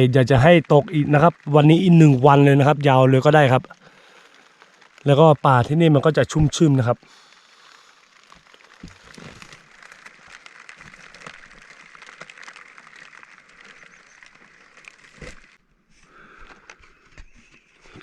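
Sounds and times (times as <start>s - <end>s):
rain falling: 0.0s - 15.6s.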